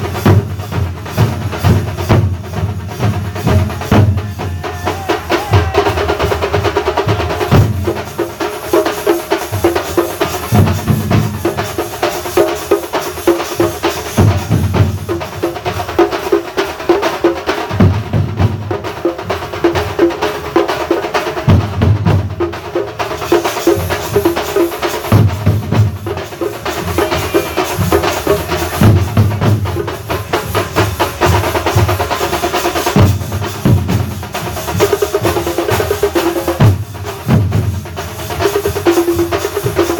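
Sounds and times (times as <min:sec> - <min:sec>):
fast dense drumming: 0:00.0 - 0:39.9.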